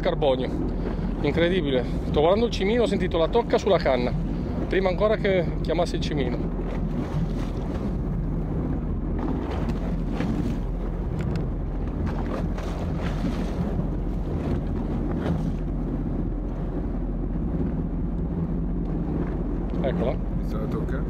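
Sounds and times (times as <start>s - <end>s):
boat engine humming: 0.0s - 21.0s
sea washing around hull: 0.0s - 21.0s
wind on microphone: 0.0s - 21.0s.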